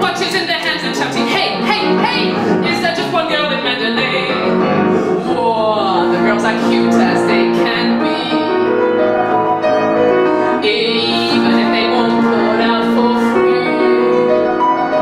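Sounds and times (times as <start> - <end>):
woman singing: 0.0 - 8.8, 10.6 - 15.0
piano accompaniment: 0.0 - 15.0.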